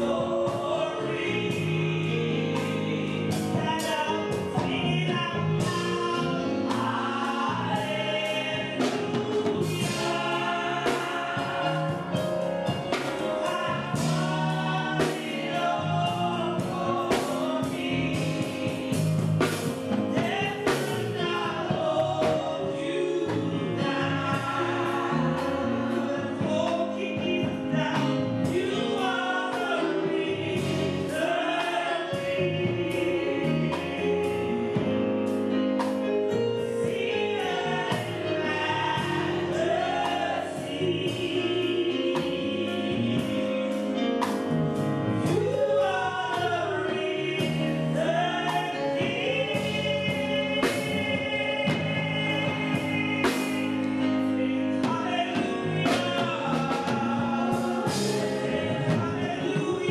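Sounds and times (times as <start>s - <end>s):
voices singing along: 0.0s - 44.5s, 45.1s - 59.9s
live band with guitar: 0.0s - 59.9s.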